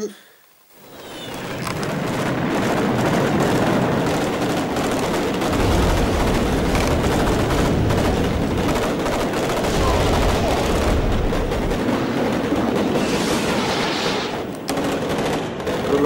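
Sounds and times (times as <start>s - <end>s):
deep rumble: 1.4s - 14.6s
explosions: 1.4s - 16.0s
gunfire: 1.4s - 16.0s.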